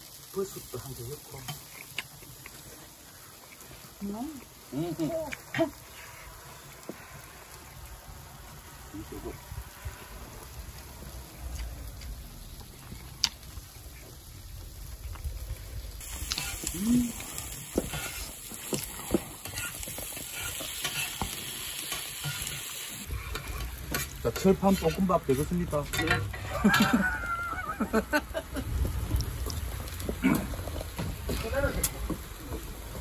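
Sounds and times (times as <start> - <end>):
food sizzling on a griddle: 0.0 - 33.0.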